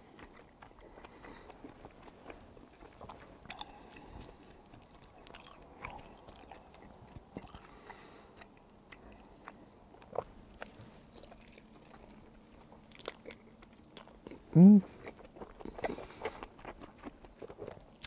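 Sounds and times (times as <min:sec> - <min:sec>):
close chewing and biting: 0:00.0 - 0:18.0.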